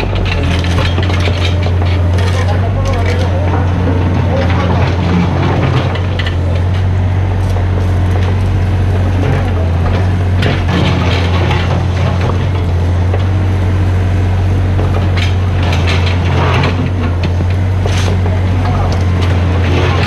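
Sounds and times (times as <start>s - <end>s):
machine clattering: 0.0s - 13.4s, 14.7s - 20.0s
excavator diesel engine running: 0.0s - 20.0s.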